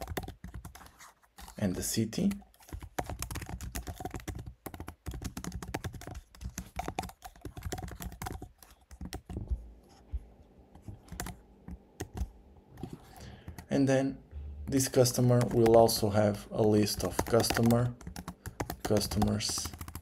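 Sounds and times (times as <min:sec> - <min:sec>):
typing on computer keyboard: 0:00.0 - 0:01.6, 0:02.2 - 0:09.6, 0:10.9 - 0:13.7, 0:15.0 - 0:16.1, 0:16.7 - 0:20.0.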